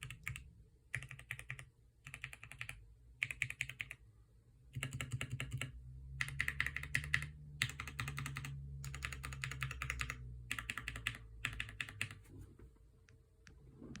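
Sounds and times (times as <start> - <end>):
typing on mechanical keyboard: 0.0 - 4.0, 4.7 - 12.2.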